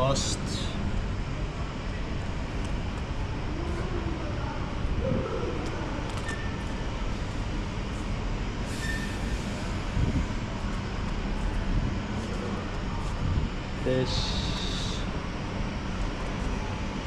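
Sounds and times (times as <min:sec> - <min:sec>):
truck engine rumble inside cab: 0:00.0 - 0:17.0.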